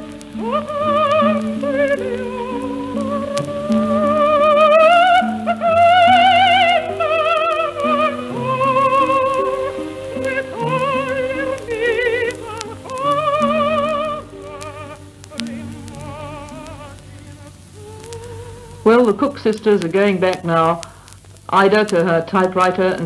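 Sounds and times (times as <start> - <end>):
sustained musical accompaniment: 0.0 - 20.1
operatic soprano singing: 0.0 - 20.8.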